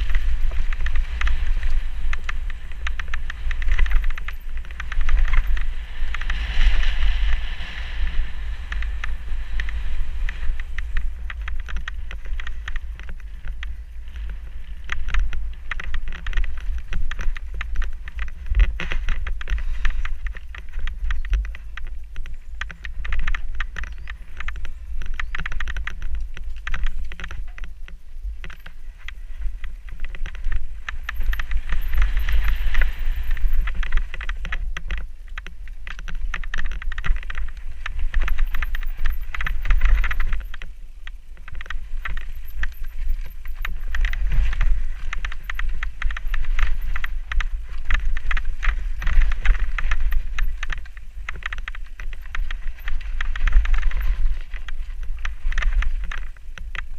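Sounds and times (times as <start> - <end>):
bike rattling: 0.0 - 56.9
bike tyres crackling over dirt: 0.0 - 56.9
wind buffeting microphone: 0.0 - 56.9.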